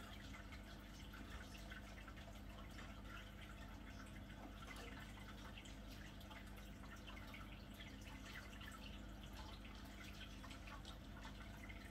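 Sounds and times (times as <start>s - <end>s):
water trickling and dripping: 0.0s - 11.9s.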